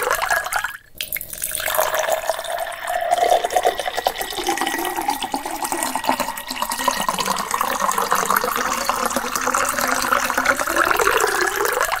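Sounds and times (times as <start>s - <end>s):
water pouring into a glass: 0.0s - 12.0s.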